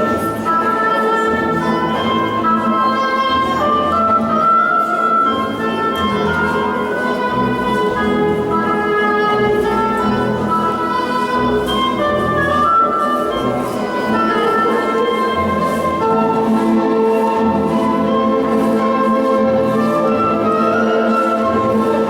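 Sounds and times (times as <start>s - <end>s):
orchestral dance music over loudspeakers: 0.0s - 22.0s.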